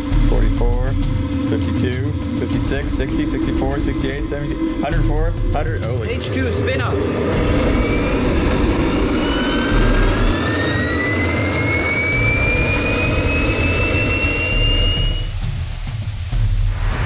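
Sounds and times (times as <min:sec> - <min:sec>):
turbojet engine spooling up: 0:00.0 - 0:17.0.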